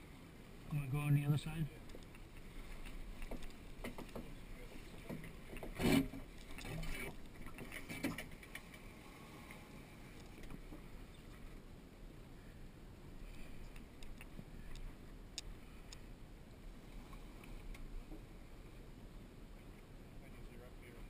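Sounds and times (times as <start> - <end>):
water noise: 0.0 - 21.0.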